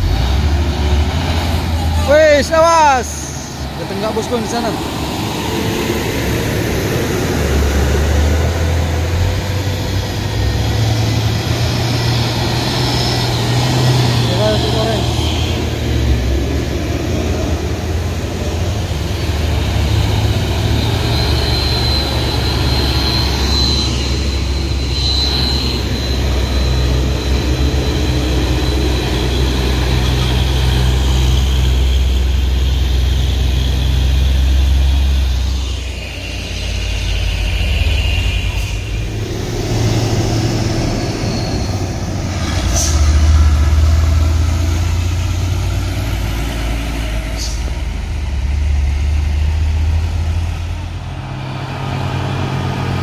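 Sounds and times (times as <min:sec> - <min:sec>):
diesel truck engines labouring: 0:00.0 - 0:53.0.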